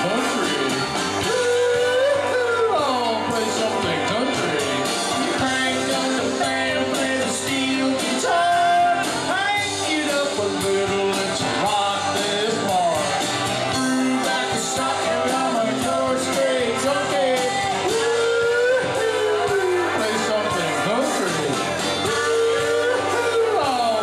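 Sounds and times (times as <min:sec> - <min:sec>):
backing track music: 0:00.0 - 0:24.0
man singing karaoke: 0:00.0 - 0:24.0.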